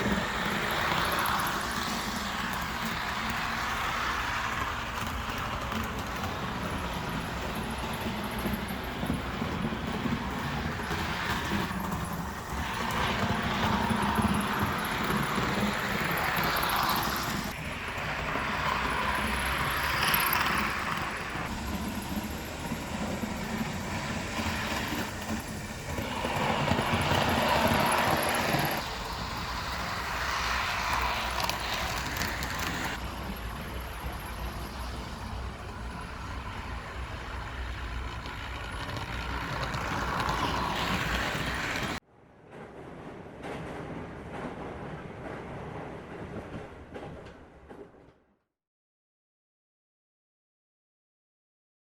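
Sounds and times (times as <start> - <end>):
model train whirring: 0.0 - 42.0.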